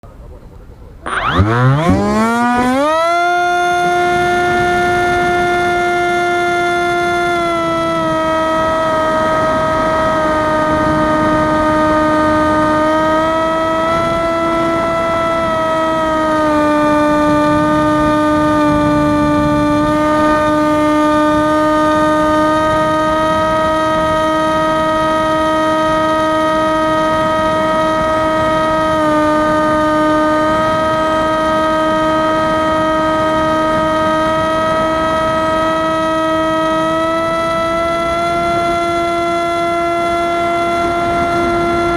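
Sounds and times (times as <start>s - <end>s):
electric motor whine: 0.8s - 41.9s.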